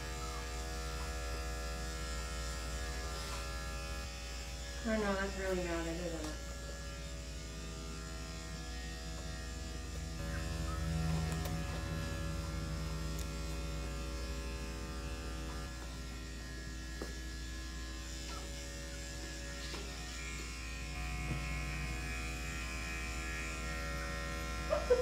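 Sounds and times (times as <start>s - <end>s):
electric clippers buzzing: 0.0s - 25.0s.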